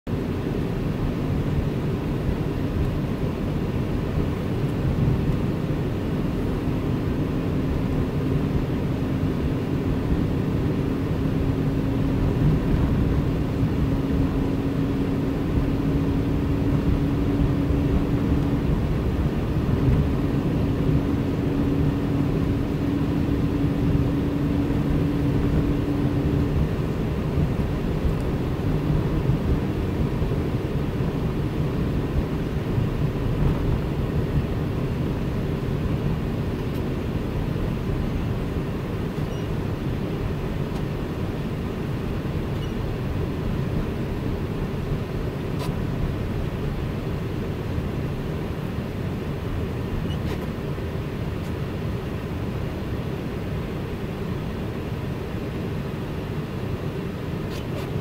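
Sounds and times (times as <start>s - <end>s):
car driving on snowy road: 0.1s - 58.0s.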